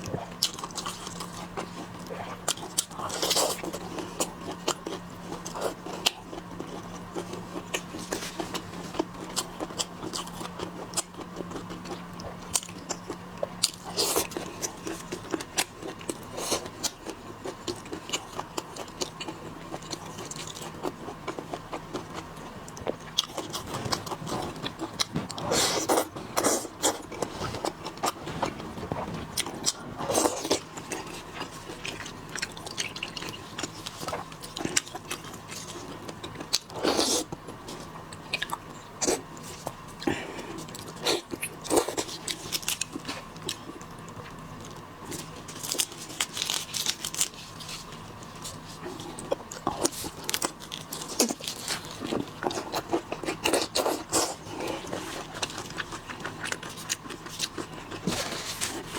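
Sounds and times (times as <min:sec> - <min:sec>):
wet chewing and biting: 0:00.0 - 0:58.9.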